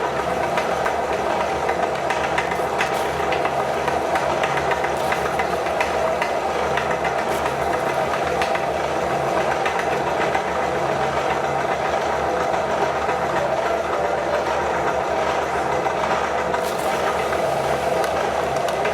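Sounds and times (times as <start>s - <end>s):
meat grinder motor running: 0.0s - 12.6s, 16.3s - 18.9s.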